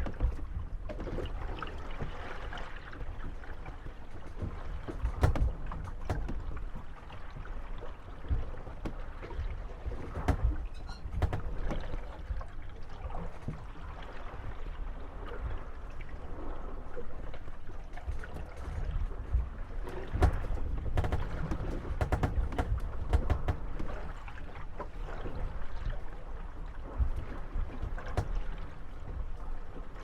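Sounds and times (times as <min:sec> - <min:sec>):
boat hulls knocking and creaking: 0:00.0 - 0:30.0.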